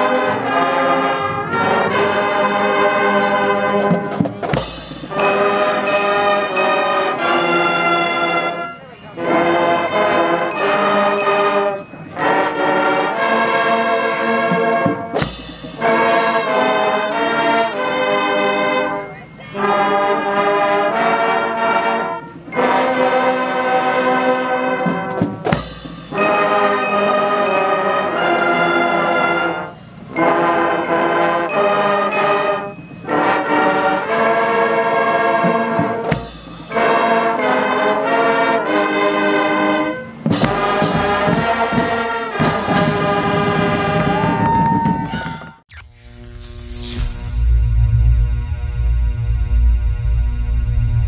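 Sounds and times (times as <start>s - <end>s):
marching band brass playing: 0.0s - 45.6s.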